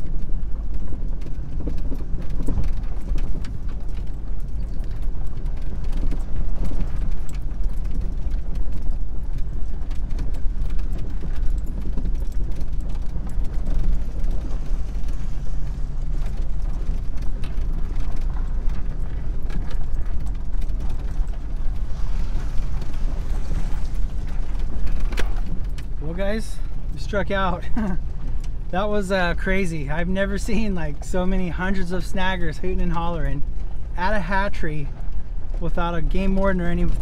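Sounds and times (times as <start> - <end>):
cab rattling and creaking: 0.0 - 37.0
truck engine and tyres rumbling: 0.0 - 37.0.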